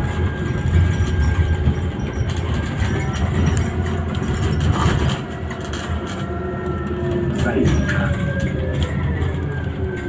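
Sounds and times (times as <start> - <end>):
bus engine rumbling: 0.0 - 10.0
road and cabin noise: 0.0 - 10.0.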